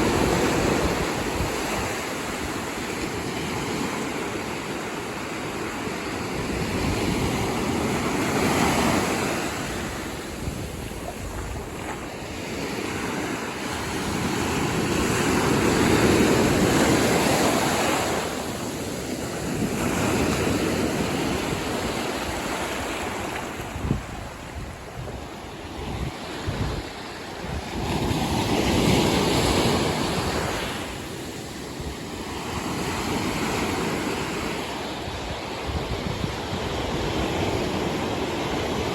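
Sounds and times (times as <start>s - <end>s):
wind buffeting microphone: 0.0s - 3.9s, 4.9s - 38.9s
ocean surf breaking: 0.0s - 38.9s.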